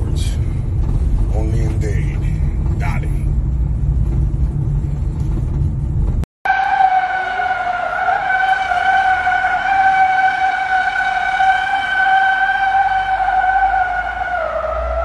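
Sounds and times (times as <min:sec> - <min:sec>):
car driving rumble from inside: 0:00.0 - 0:15.0.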